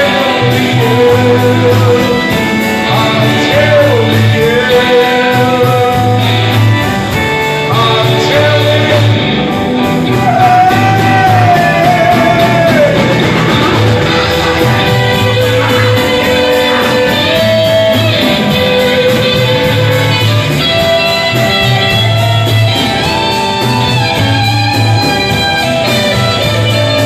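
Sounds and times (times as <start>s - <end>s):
held lead melody: 0.0s - 27.0s
rock band playing: 0.0s - 27.0s.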